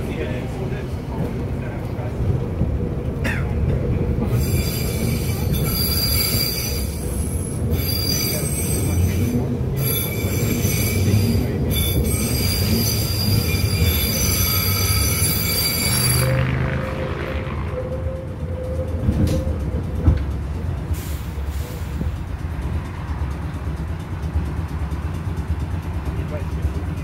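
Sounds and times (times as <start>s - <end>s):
tram rumbling along track: 0.0s - 27.0s
tram wheels squealing on rails: 3.4s - 27.0s.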